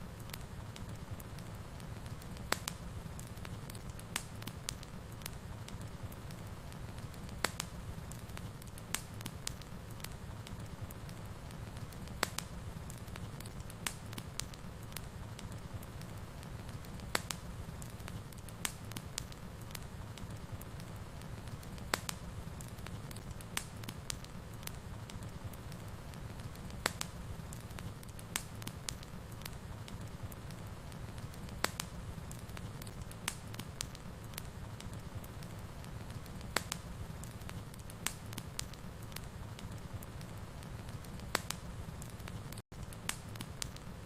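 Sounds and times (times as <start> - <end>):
burning logs crackling and popping: 0.0 - 44.0
fire flames rumbling: 0.0 - 44.0.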